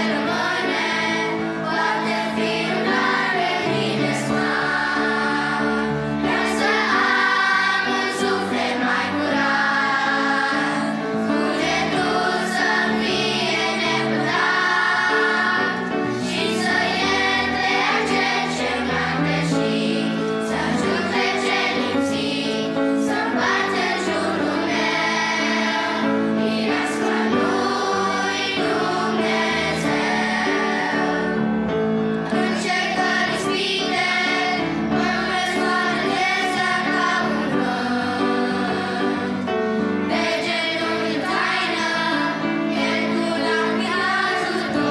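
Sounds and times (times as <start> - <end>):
children's choir singing: 0.0 - 44.9
grand piano: 0.0 - 44.9.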